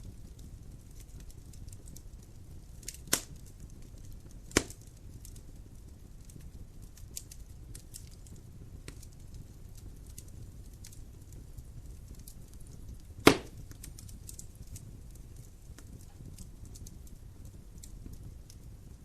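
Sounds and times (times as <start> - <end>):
burning wood popping: 0.0 - 19.0
wood fire rumbling and crackling: 0.0 - 19.0.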